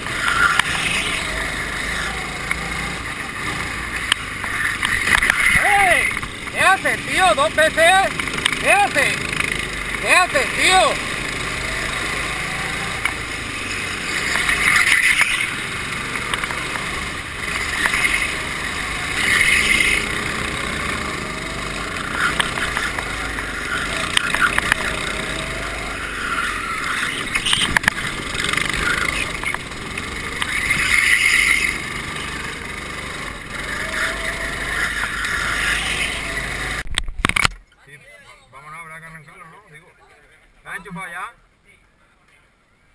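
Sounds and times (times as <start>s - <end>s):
go-kart engine running: 0.0s - 37.5s.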